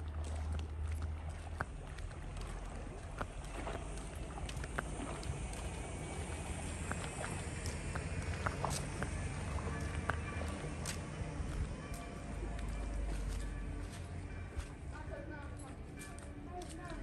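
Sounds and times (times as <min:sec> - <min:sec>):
footsteps: 0:00.0 - 0:17.0
steady low rumble: 0:00.0 - 0:17.0.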